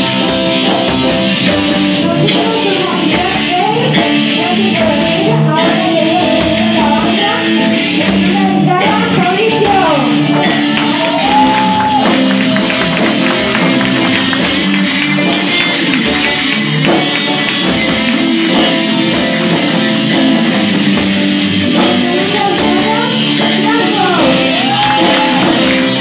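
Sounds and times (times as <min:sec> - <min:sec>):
bass guitar: 0:00.0 - 0:26.0
drums: 0:00.0 - 0:26.0
electric guitar: 0:00.0 - 0:26.0
keyboard: 0:00.0 - 0:26.0
sliding melody line: 0:00.0 - 0:26.0.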